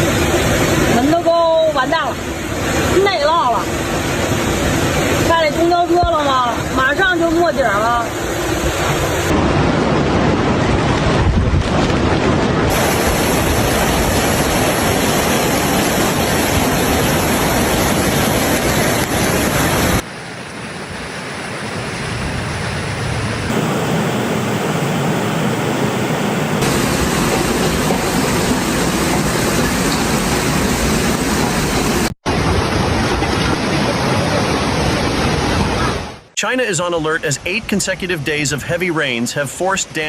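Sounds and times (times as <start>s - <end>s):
heavy rushing water roar: 0.0s - 40.0s.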